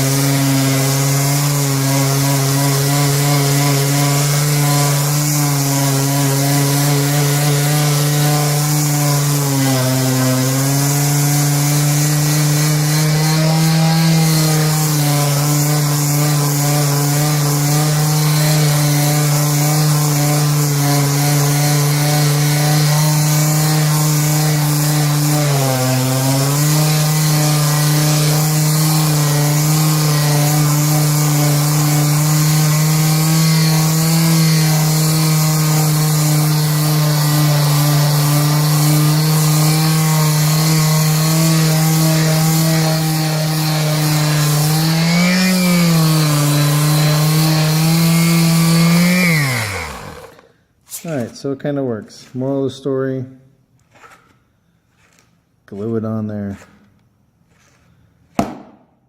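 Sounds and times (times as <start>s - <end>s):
electric palm sander humming: 0.0s - 50.4s.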